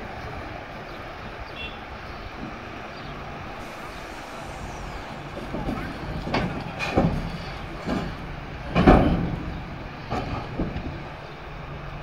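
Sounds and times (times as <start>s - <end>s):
heavy diesel engines running: 0.0s - 12.0s.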